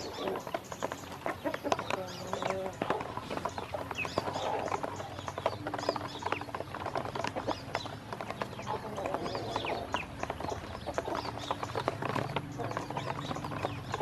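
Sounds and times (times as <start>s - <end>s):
bills tapping at feed: 0.0s - 14.0s
ducklings peeping: 0.0s - 14.0s.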